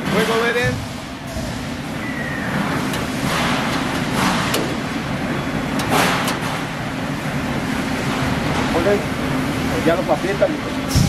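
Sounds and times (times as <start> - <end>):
low rumble of machinery: 0.0 - 11.0.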